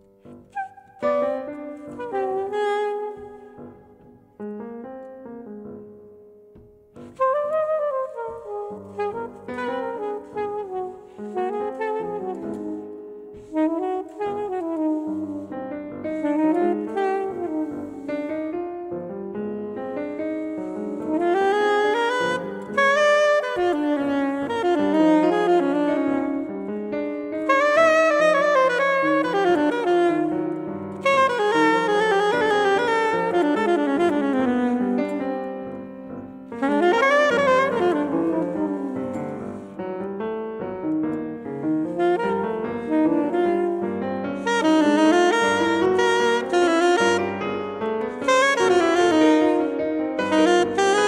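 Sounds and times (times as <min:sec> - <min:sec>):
grand piano: 0:00.0 - 0:51.0
soprano saxophone jazz melody: 0:00.0 - 0:51.0.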